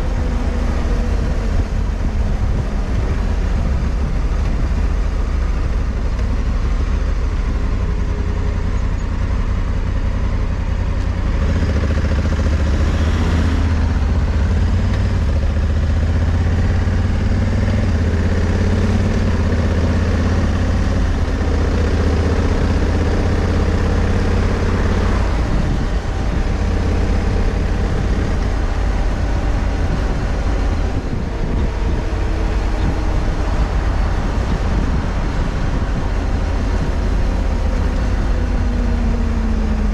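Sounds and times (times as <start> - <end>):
wind noise on microphone: 0.0 - 8.8, 11.2 - 39.9
motorcycle engine running: 0.0 - 39.9.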